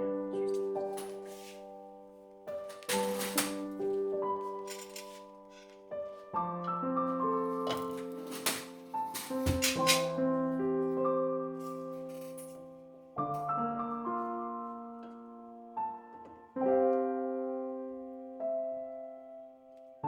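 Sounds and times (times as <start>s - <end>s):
gentle solo piano music: 0.0s - 20.0s.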